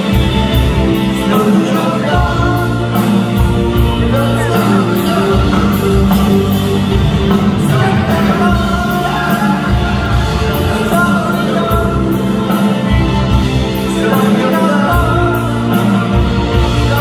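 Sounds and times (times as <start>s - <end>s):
drum kit with cymbal beat: 0.0s - 17.0s
electric guitar: 0.0s - 17.0s
man singing through pa: 1.1s - 3.1s, 3.8s - 13.2s, 13.8s - 17.0s.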